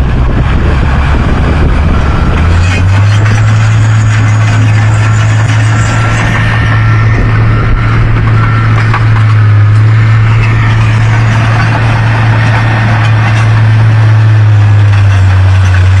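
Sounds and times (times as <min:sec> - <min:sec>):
diesel engine hum: 0:00.0 - 0:16.0
mechanical clatter: 0:01.7 - 0:16.0.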